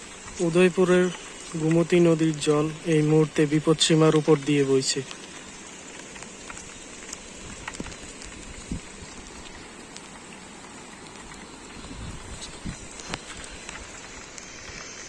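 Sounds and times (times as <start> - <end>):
faint ticks: 0.0 - 15.0
water hissing: 0.0 - 15.0.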